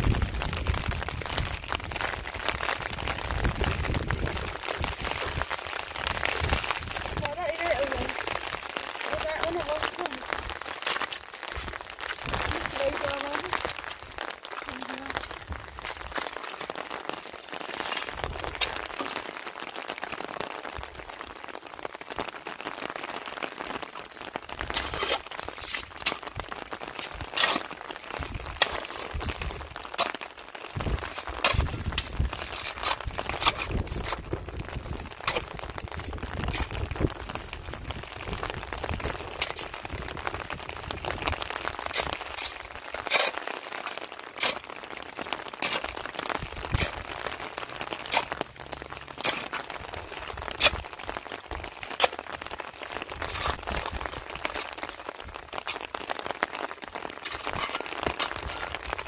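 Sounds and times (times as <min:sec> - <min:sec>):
rain on plastic sheeting: 0:00.0 - 0:59.0.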